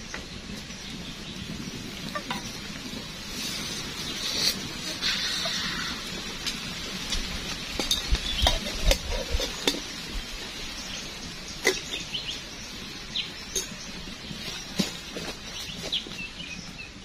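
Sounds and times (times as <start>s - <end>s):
small birds chirping: 0.0s - 17.0s
wood fire crackling: 0.0s - 17.0s.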